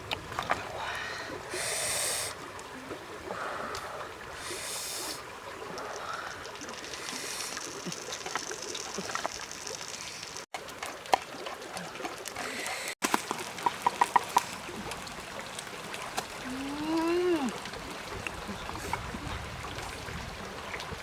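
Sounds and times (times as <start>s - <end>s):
water sloshing and trickling: 0.0s - 21.0s.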